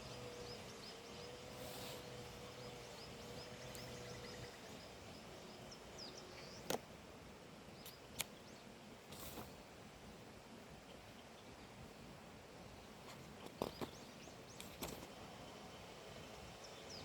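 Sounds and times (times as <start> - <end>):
small birds chirping: 0.0 - 9.7, 10.6 - 12.0, 12.6 - 17.0
faint outdoor background noise: 0.0 - 17.0.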